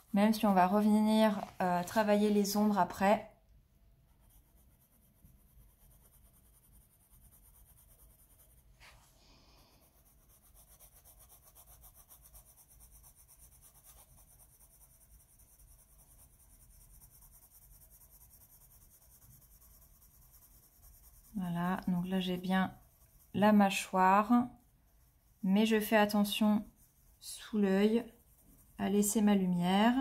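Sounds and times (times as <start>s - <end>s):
coloured pencil scratching on paper: 0.0s - 3.2s, 3.9s - 30.0s.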